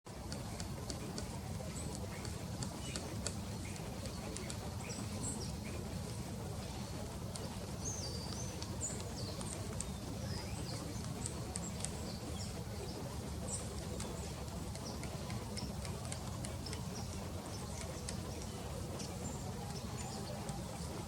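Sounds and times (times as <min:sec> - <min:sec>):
sharp ticks: 0:00.1 - 0:06.2, 0:06.9 - 0:21.0
birds chirping: 0:00.1 - 0:21.0
steady low rumble: 0:00.1 - 0:21.0.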